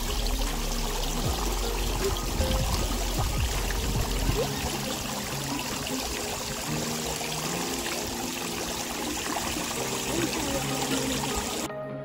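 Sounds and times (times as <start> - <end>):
fountain water splashing: 0.0 - 11.7.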